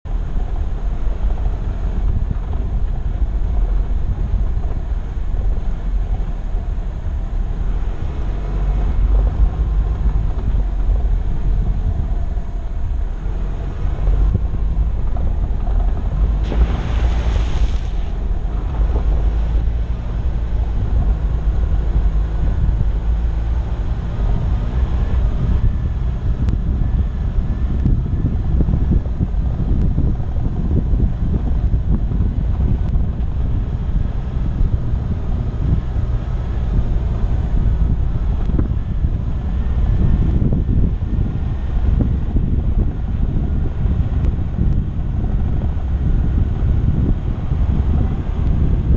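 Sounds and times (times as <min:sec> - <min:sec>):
vehicle driving on gravel: 0:00.0 - 0:48.9
wind buffeting microphone: 0:00.0 - 0:48.9.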